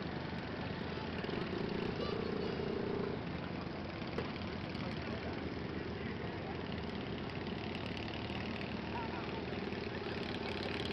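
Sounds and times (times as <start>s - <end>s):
garden tractor engine running: 0.0s - 10.9s.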